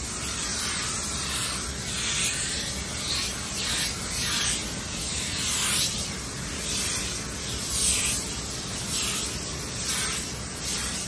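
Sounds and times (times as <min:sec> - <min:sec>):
garment steamer hissing: 0:00.0 - 0:11.0.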